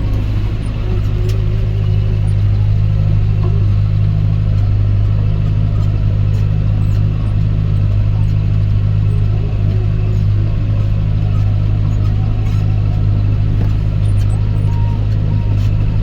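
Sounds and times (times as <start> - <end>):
tractor engine running under load: 0.0 - 16.0.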